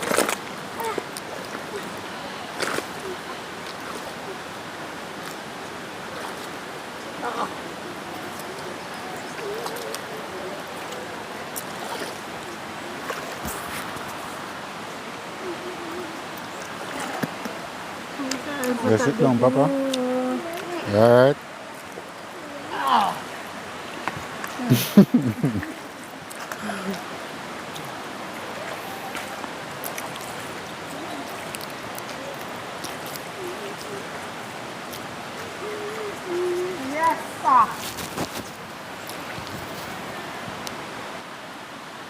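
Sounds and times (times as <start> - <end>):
river water flowing: 0.0 - 42.0.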